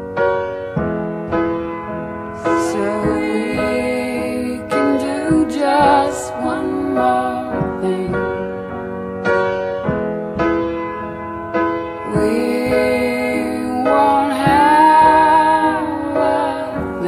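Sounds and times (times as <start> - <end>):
solo piano chords: 0.0 - 17.0.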